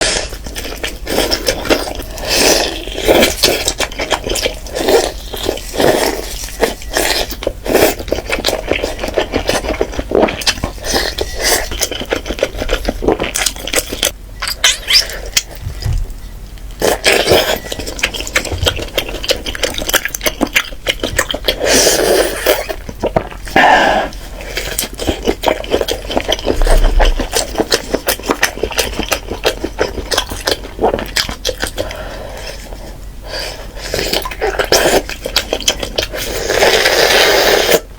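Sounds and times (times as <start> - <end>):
chewing and biting: 0.0 - 37.9.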